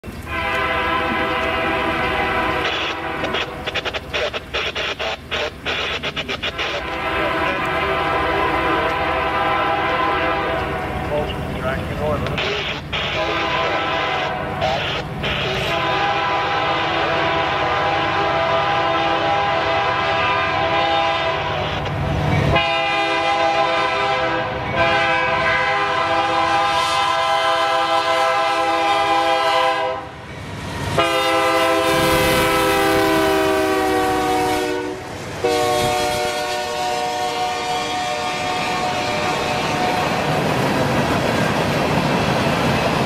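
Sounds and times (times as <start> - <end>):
freight train rumbling: 0.0 - 43.0
locomotive air horn blasts: 0.3 - 3.9, 6.5 - 11.1, 12.4 - 21.9, 22.5 - 30.2, 31.0 - 40.2.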